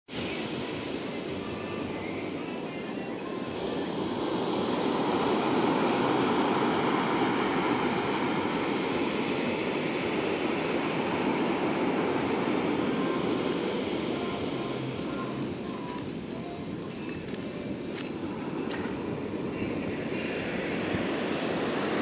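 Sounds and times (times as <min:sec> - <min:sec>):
surf breaking on beach: 0:00.1 - 0:22.0.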